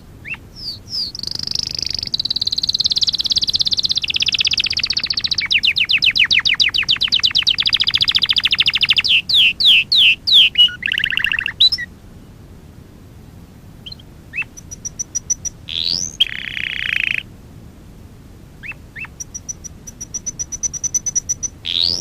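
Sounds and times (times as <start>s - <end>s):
canary singing: 0.0s - 12.4s, 13.8s - 17.3s, 18.6s - 22.0s.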